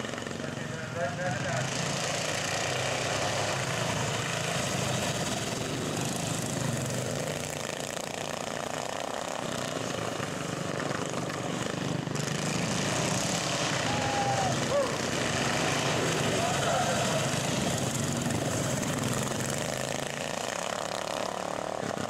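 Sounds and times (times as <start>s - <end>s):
small tractor engines running: 0.0s - 22.0s.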